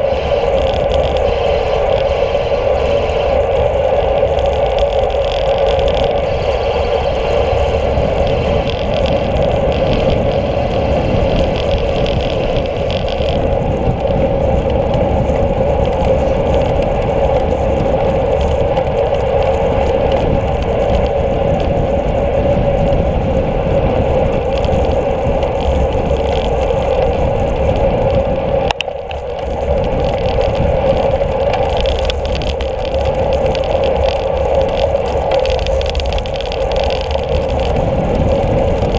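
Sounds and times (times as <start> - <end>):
droning hum: 0.0 - 38.9
wind rushing over microphone: 0.0 - 38.9.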